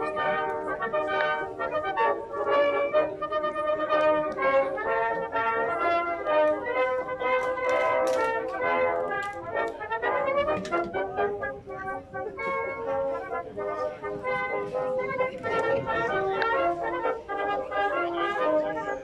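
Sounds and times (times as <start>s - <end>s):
brass instruments playing: 0.0s - 19.0s.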